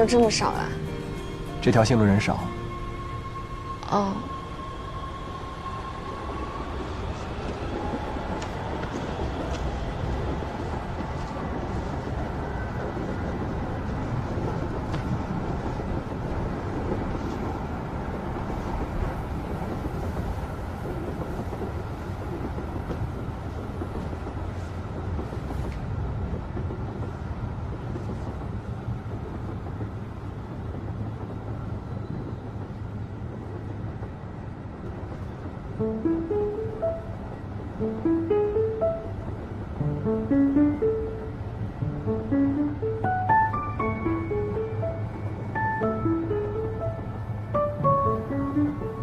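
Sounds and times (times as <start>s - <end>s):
subway carriage rumbling: 0.0s - 49.0s.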